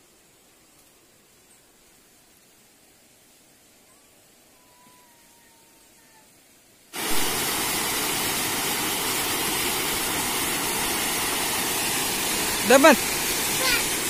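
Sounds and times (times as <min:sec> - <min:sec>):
rush of falling water: 0:00.0 - 0:14.0.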